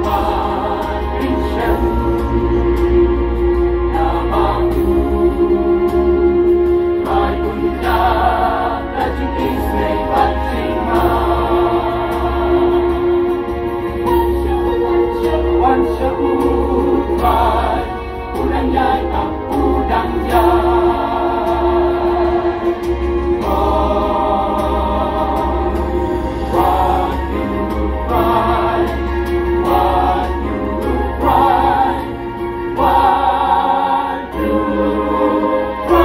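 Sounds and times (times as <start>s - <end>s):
mixed choir singing in harmony: 0.0s - 36.0s.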